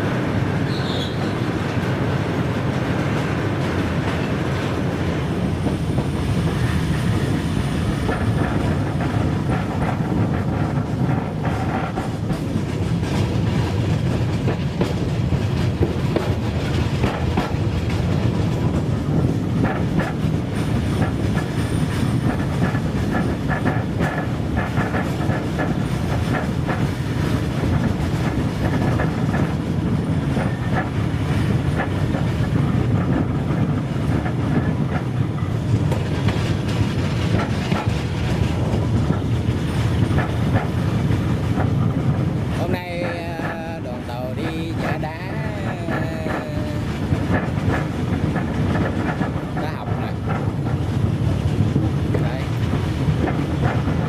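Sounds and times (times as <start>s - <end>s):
train rumbling: 0.0s - 54.0s
wheels clicking over rail joints: 0.2s - 54.0s.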